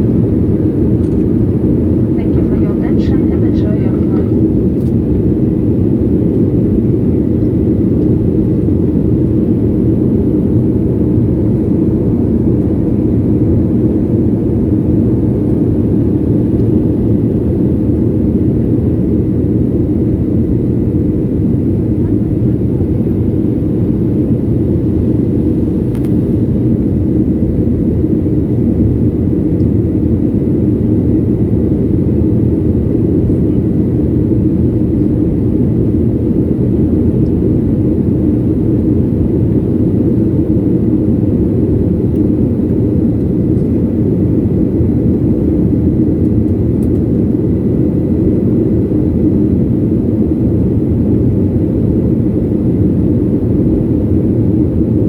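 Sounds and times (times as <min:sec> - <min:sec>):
airliner engines rumbling: 0:00.0 - 0:55.0.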